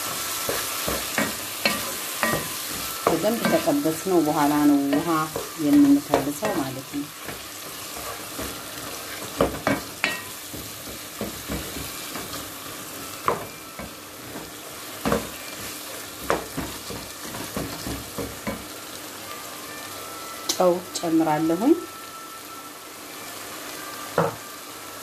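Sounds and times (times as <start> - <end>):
meat sizzling in a pot: 0.0 - 25.0.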